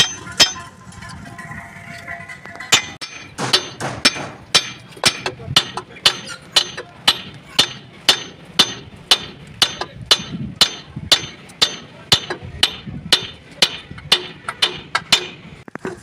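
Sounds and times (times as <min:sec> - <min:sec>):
hammer blows on metal: 0:02.7 - 0:15.5.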